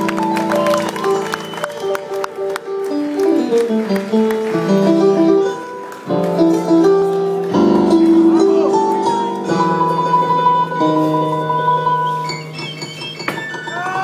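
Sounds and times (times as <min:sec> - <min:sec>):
live instrumental music: 0:00.0 - 0:14.0.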